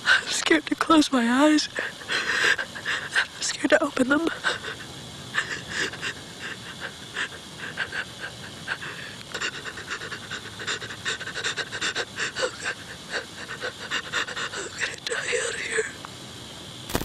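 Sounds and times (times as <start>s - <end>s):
woman panting and crying: 0.0s - 0.4s, 1.6s - 15.0s.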